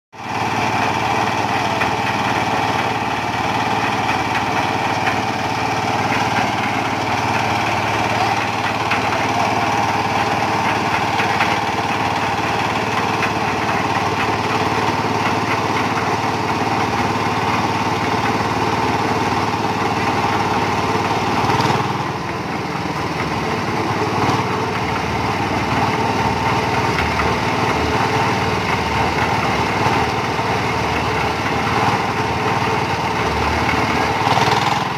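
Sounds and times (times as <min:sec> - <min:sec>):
concrete mixer running: 0:00.2 - 0:34.9.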